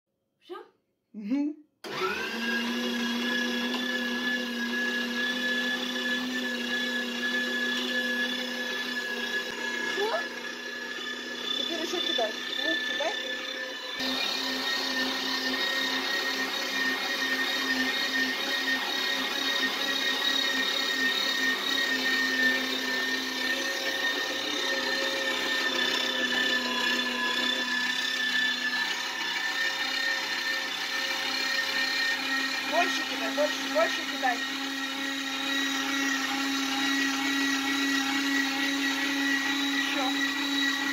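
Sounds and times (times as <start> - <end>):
meat grinder motor humming: 1.8 - 40.9.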